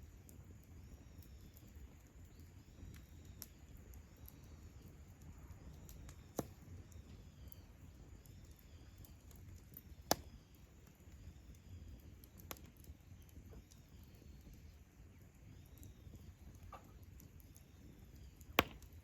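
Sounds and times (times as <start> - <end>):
campfire rumbling: 0.0 - 19.0
fire crackling pops: 0.0 - 19.0.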